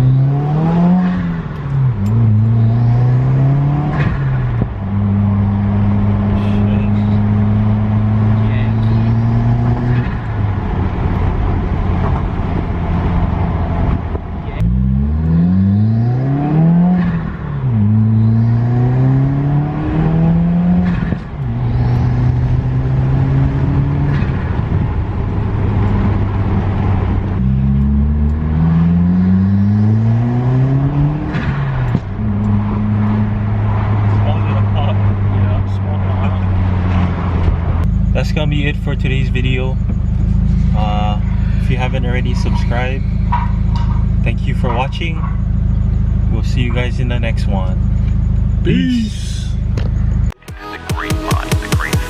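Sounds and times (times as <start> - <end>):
car engine accelerating through gears: 0.0 - 50.4.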